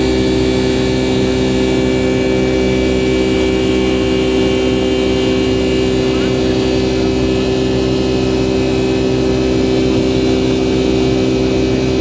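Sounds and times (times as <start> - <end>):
jet engine cabin drone: 0.0 - 12.0.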